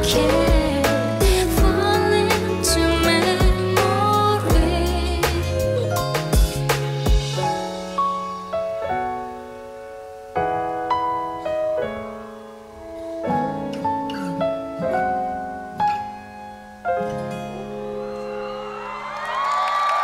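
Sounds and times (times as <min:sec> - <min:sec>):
piano chords ringing: 0:00.0 - 0:19.2.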